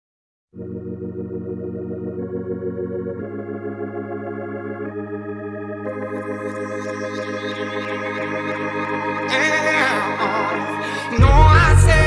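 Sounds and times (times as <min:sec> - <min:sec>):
organ chords: 0:00.5 - 0:12.0.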